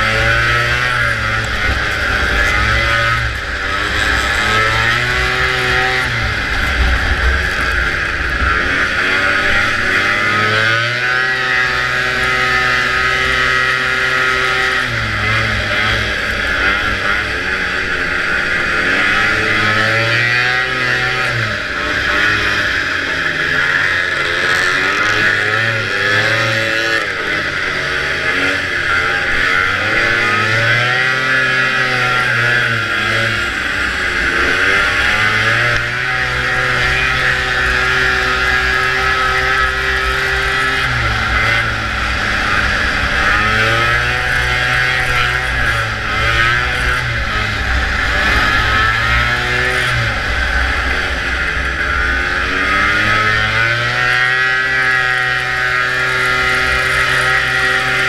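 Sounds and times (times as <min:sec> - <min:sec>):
snowmobile engine running hard: 0:00.0 - 0:58.0.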